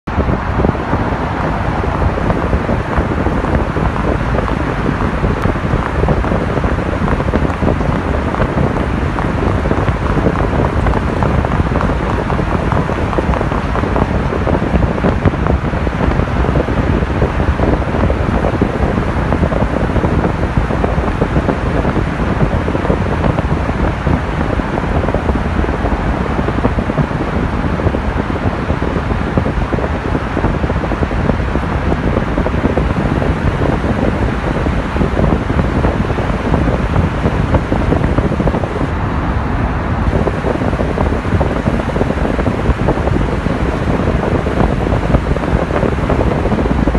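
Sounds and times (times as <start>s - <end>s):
wind and road noise: 0.0s - 46.9s
wind buffeting microphone: 0.0s - 46.9s.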